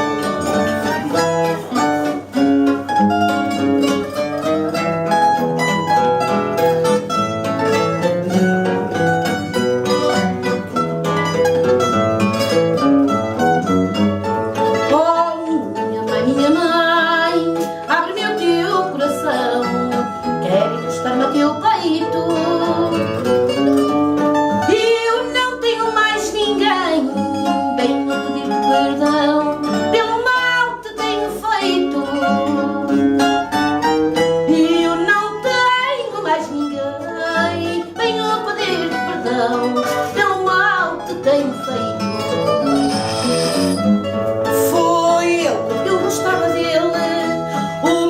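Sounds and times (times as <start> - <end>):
plucked guitars playing: 0.0 - 48.0.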